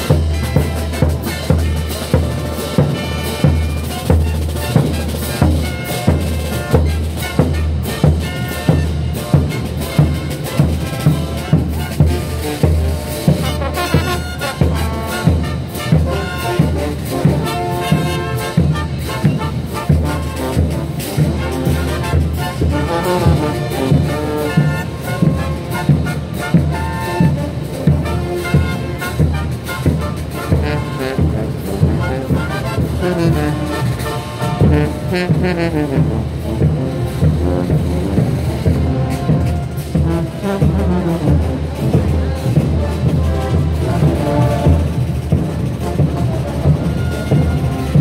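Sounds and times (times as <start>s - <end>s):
brass band chords: 0.0s - 48.0s
steady drum beat: 0.0s - 48.0s.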